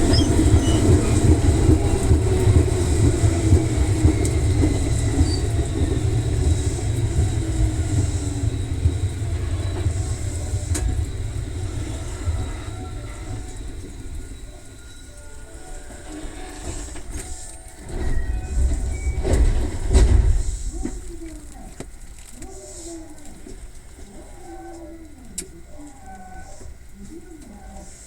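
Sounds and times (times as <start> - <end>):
train motor tones: 0.0 - 28.0
train wheels rumbling: 0.0 - 28.0.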